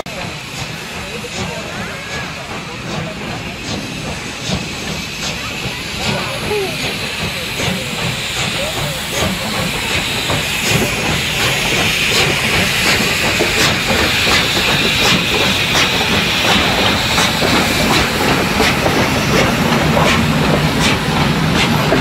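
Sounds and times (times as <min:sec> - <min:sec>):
steam locomotive hissing steam: 0:00.0 - 0:22.0.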